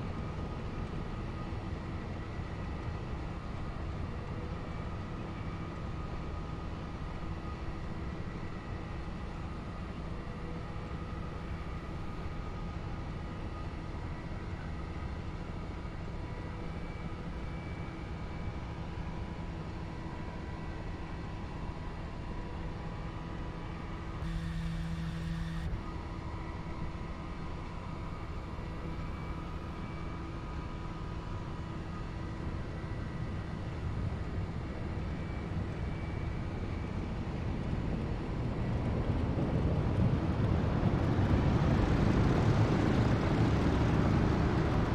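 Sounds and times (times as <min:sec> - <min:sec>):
propeller plane engines droning: 0:00.0 - 0:44.9.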